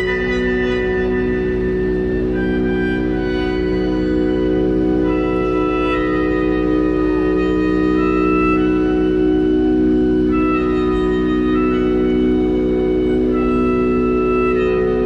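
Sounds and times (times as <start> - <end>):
long held melody notes: 0.0 - 15.0
sustained drone: 0.0 - 15.0.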